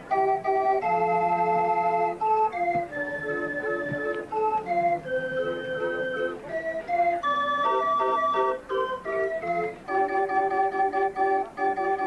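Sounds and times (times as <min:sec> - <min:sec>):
barrel organ playing a tune: 0:00.0 - 0:12.0.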